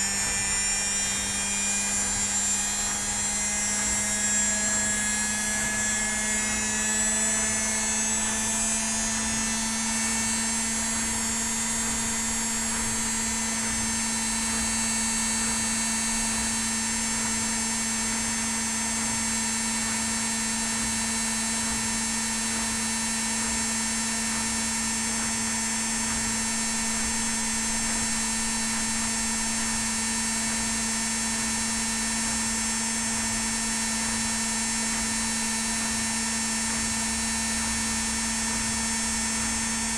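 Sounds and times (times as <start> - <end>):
washing machine spinning: 0.1 - 39.9.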